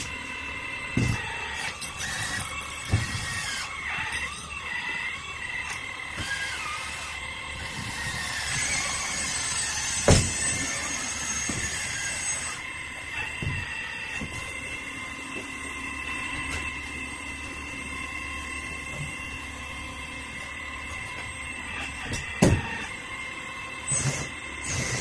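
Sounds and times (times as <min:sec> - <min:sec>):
hydraulic pump whining: 0:00.0 - 0:25.0.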